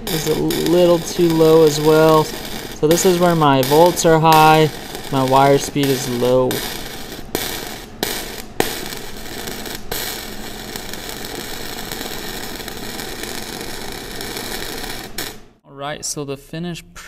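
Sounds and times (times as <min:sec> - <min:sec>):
welding sharp pops: 0:00.0 - 0:15.5
welding arc crackling hiss: 0:00.0 - 0:15.6.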